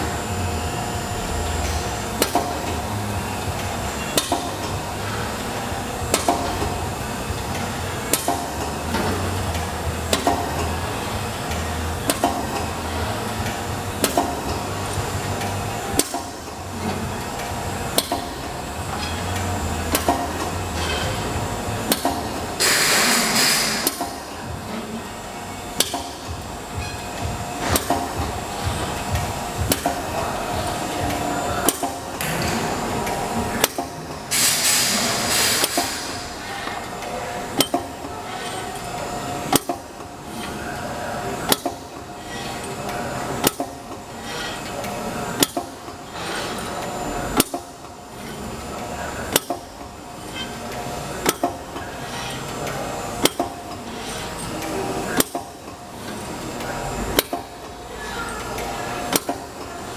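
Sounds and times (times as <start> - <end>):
machine hum: 0.0 - 59.9
machine punch strokes: 1.1 - 24.7, 25.8 - 57.6.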